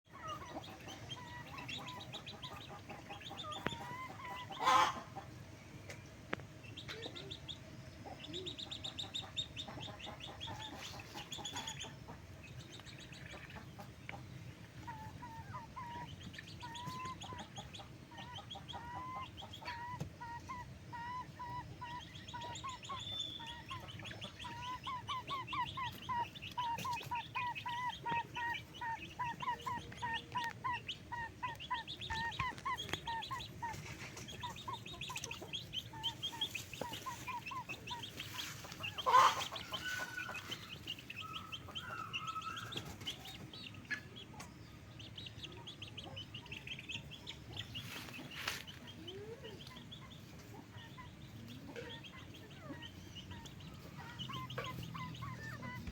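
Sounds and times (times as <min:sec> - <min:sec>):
chickens clucking: 0:00.1 - 0:55.9.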